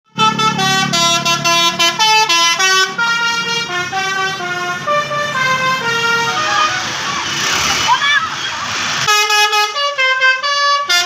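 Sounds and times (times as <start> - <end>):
multi-tone bus air horn melody: 0.1 - 7.4, 9.0 - 11.0.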